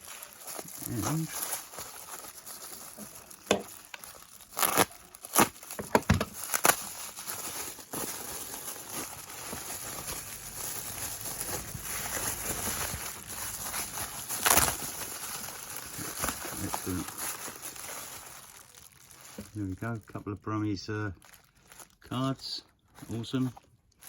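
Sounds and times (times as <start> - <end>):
sharp crackles: 0.0 - 5.8, 6.4 - 20.1
bubble wrap and paper crinkling: 0.0 - 24.0.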